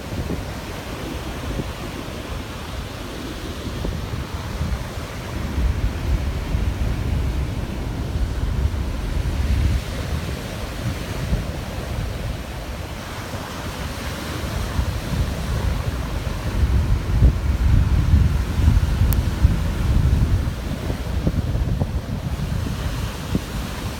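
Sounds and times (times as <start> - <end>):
surf washing: 0.0 - 23.9
wind buffeting microphone: 0.0 - 23.9.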